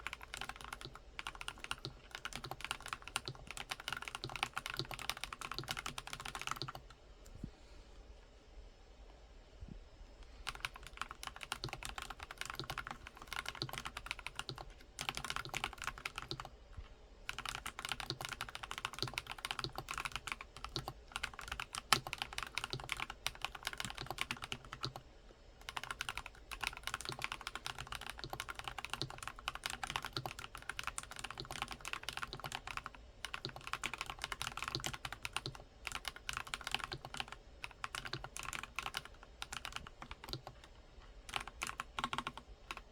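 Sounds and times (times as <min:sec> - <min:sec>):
mechanical keyboard typing: 0:00.0 - 0:06.9, 0:10.5 - 0:16.5, 0:17.3 - 0:25.0, 0:25.6 - 0:42.9.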